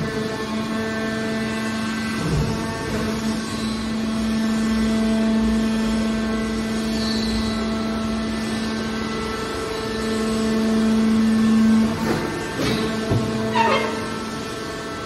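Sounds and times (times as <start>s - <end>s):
hydraulic power pack humming: 0.0s - 15.0s.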